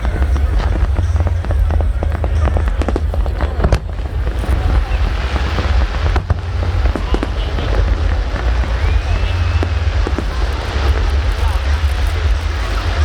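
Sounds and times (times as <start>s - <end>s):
deep continuous rumble: 0.0s - 13.0s
fireworks bursting and crackling: 0.0s - 13.0s
sharp firework reports: 0.0s - 13.0s.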